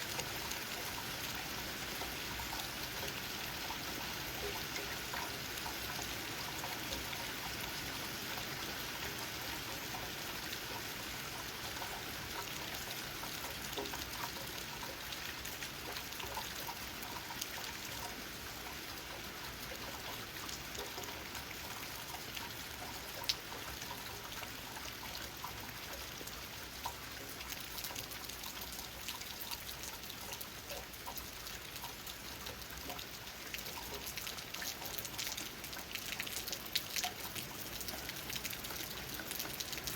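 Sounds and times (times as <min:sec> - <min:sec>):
rain pattering on leaves: 0:00.0 - 0:39.9
water drips: 0:00.0 - 0:39.9.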